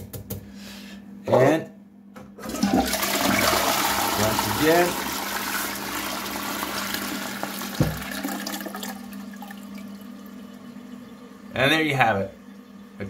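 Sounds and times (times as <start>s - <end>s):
toilet flushing: 2.4s - 13.0s.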